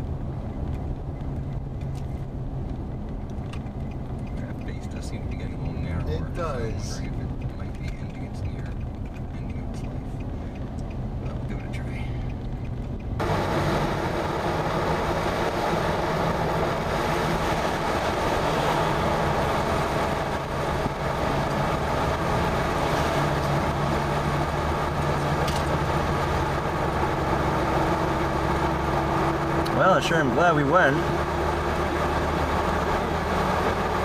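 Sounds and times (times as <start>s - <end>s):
car engine hum: 0.0s - 34.0s
road and wind noise: 0.0s - 34.0s.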